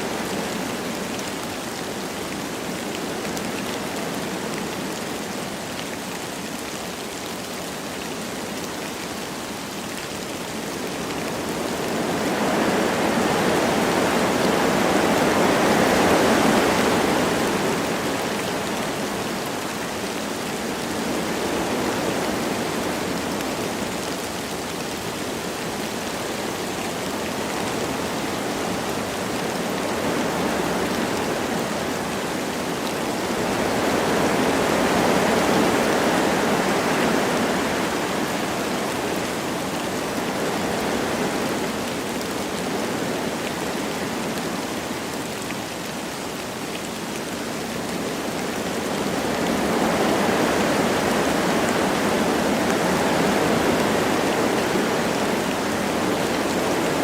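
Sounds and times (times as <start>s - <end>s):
light rain falling: 0.0s - 57.0s
wind through trees: 0.0s - 57.0s.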